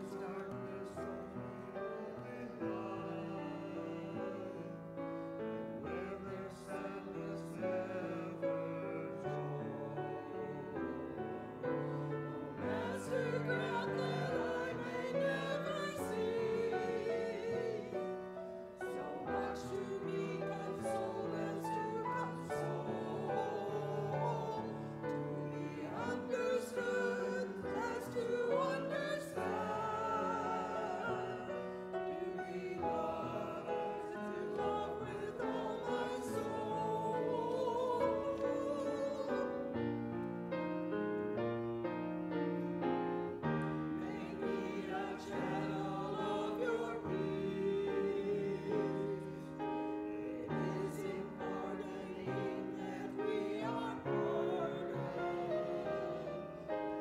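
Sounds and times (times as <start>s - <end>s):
church choir singing: 0.0s - 57.0s
grand piano accompaniment: 0.0s - 57.0s.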